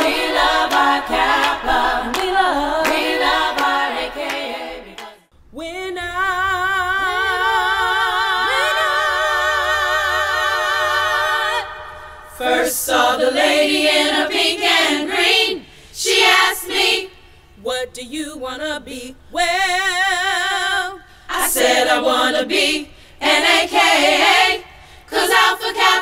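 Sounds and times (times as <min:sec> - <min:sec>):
women singing a cappella: 0:00.0 - 0:26.0.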